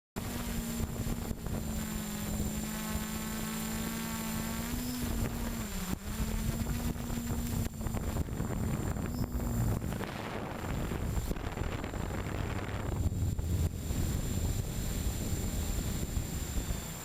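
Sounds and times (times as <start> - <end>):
drone propellers whirring: 0.2 - 17.0
low wind buffeting: 0.2 - 17.0.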